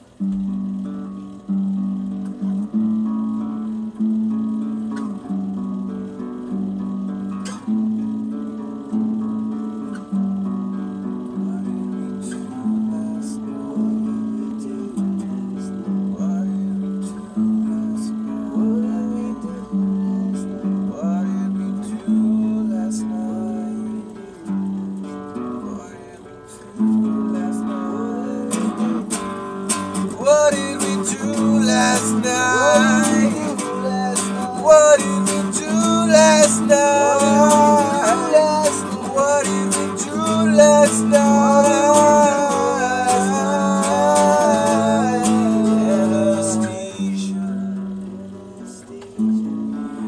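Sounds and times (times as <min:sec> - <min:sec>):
acoustic guitars strumming chords: 0:00.0 - 0:50.0
bending guitar melody: 0:00.0 - 0:50.0.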